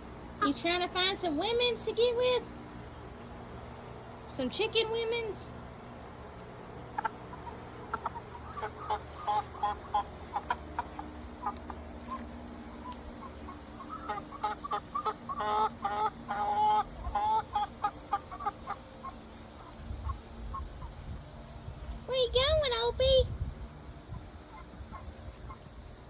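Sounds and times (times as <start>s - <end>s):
chickens clucking: 0.0s - 22.0s, 23.7s - 26.0s.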